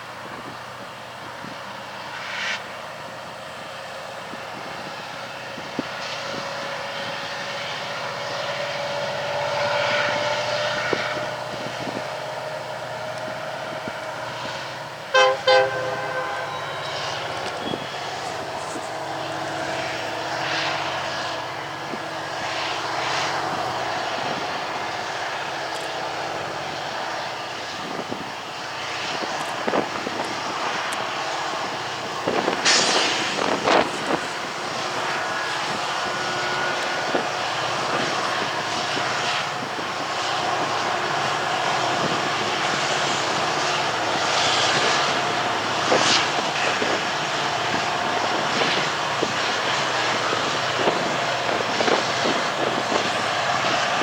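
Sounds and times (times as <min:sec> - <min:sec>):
diesel locomotive under heavy load: 0:00.0 - 0:54.0.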